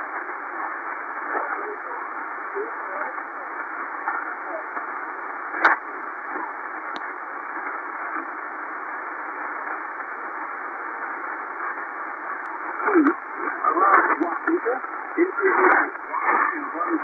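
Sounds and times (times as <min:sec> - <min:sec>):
sharp static clicks: 0:00.0 - 0:17.0
shortwave radio static hiss: 0:00.0 - 0:17.0.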